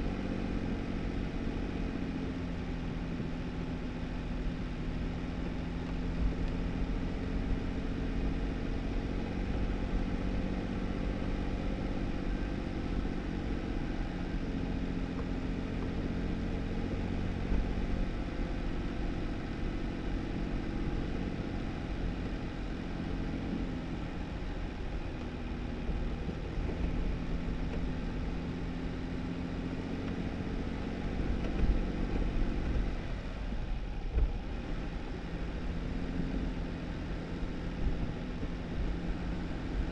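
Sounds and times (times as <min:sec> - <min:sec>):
car engine hum: 0:00.0 - 0:39.9
tyre noise on snowy dirt road: 0:00.0 - 0:39.9.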